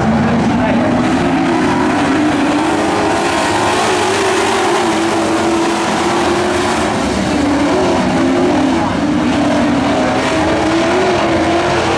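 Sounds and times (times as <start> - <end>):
race truck engines at high throttle: 0.0 - 11.9.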